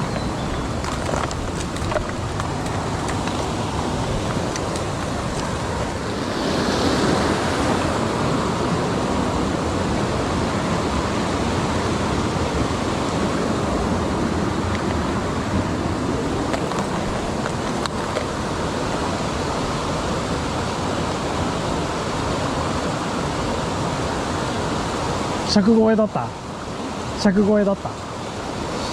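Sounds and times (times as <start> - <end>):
water rushing over rocks: 0.0 - 28.9.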